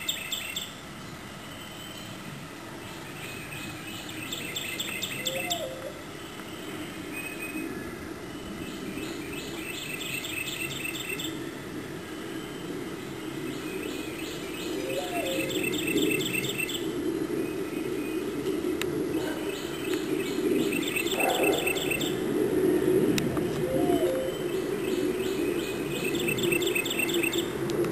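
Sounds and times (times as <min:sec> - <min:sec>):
songbird chirping trills: 0:00.0 - 0:07.7, 0:08.3 - 0:11.4, 0:12.2 - 0:18.3, 0:19.1 - 0:22.2, 0:23.6 - 0:27.5
steady low rumble: 0:00.8 - 0:27.9.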